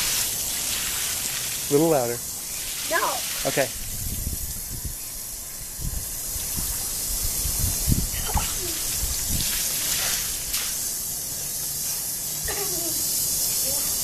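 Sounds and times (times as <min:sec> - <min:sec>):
rushing water hiss: 0:00.0 - 0:14.0.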